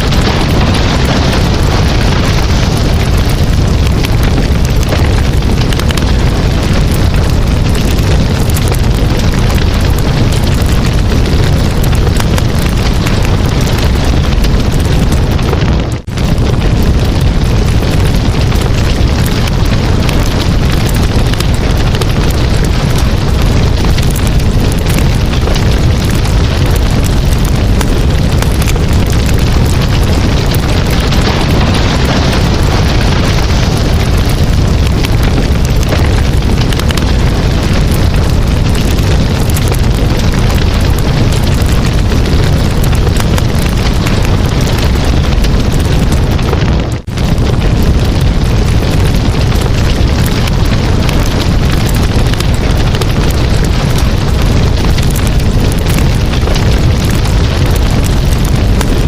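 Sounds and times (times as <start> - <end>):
campfire crackling and popping: 0.0 - 59.0
low rumble of flames: 0.0 - 59.0.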